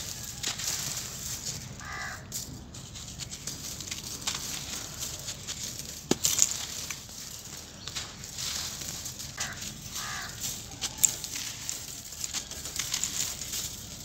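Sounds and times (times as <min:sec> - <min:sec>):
cement chunks crunching in hands: 0:00.0 - 0:14.0
grit trickling: 0:00.0 - 0:14.0.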